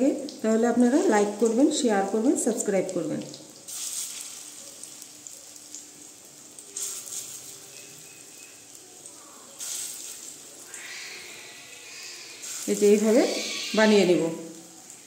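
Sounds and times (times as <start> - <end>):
fritters sizzling in oil: 0.0 - 15.0.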